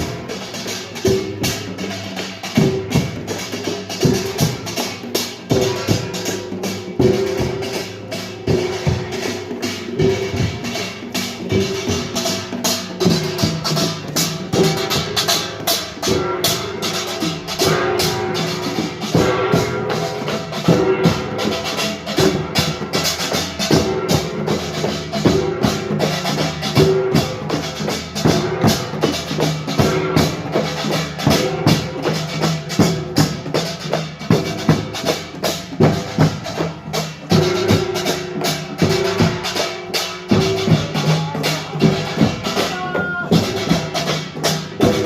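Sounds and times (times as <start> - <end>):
percussion ensemble gongs and drums: 0.0 - 45.0.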